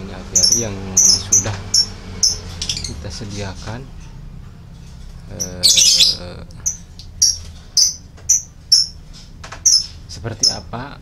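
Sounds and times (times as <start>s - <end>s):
canaries chirping: 0.0s - 3.8s, 5.0s - 10.9s.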